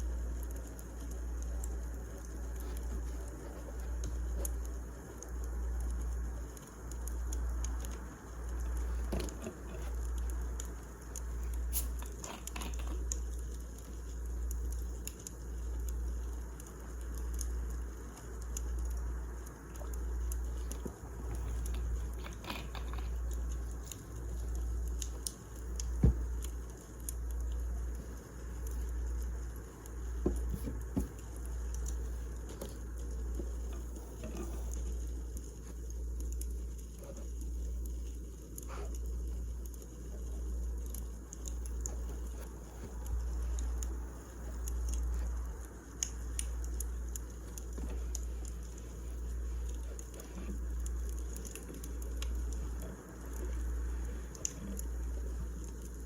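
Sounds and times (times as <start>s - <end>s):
fire pops and snaps: 0.0s - 56.0s
wood fire crackling: 0.0s - 56.0s.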